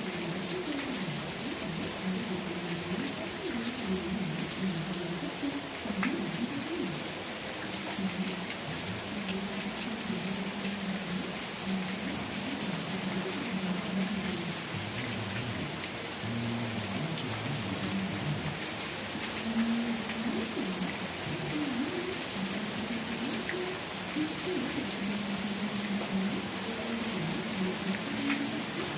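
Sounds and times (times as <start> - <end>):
raindrops ticking on a surface: 0.0 - 28.9
steady rain: 0.0 - 28.9.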